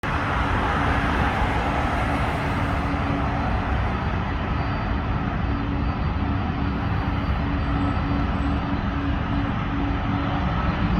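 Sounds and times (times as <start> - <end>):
jet engines roaring: 0.0 - 10.9.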